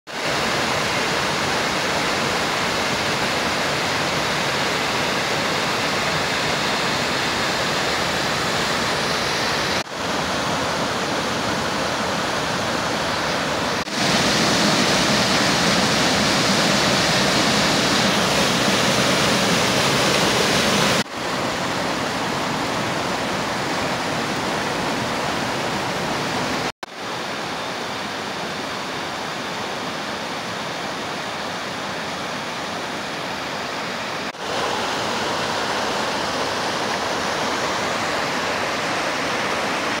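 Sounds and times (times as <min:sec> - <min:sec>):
stream rushing over rocks: 0:00.1 - 0:40.0.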